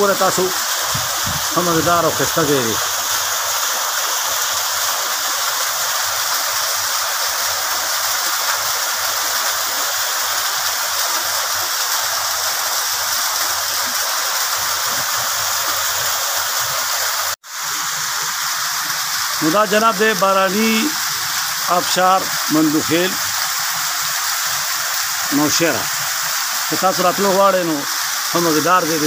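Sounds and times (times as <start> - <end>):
water splashing over rocks: 0.0 - 29.0.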